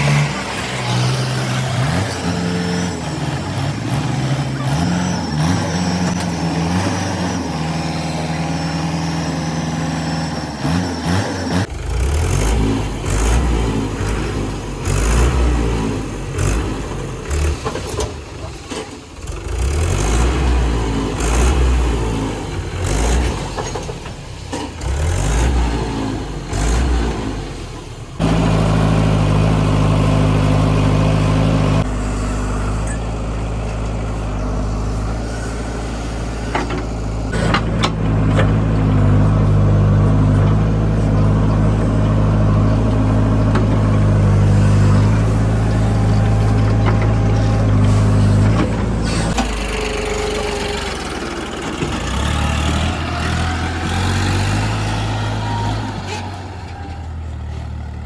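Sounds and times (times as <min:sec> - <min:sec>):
diesel engines rumbling: 0:00.0 - 0:58.0.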